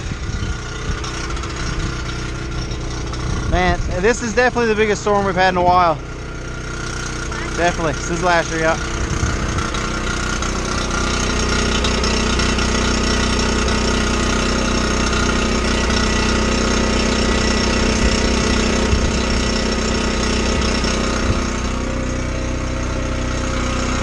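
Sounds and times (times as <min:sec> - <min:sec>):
snowblower engine running: 0:00.0 - 0:24.0.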